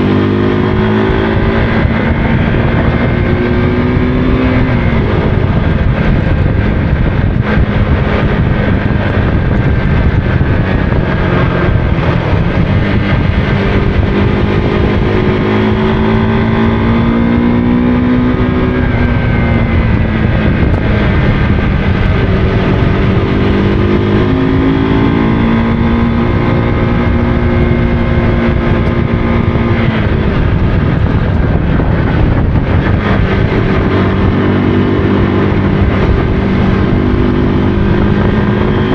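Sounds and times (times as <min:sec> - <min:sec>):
motorcycle engine revving: 0:00.0 - 0:38.9
wind rumble on microphone: 0:00.0 - 0:38.9.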